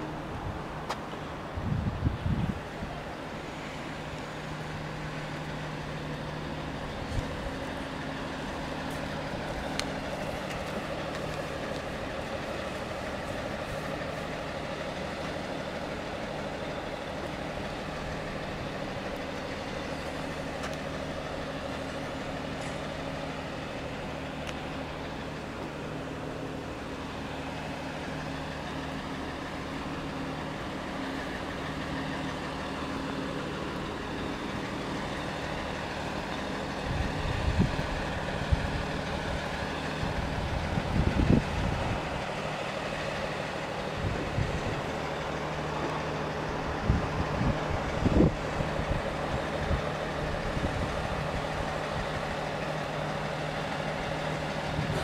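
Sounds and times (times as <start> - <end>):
fire truck engine idling: 0.0 - 55.0.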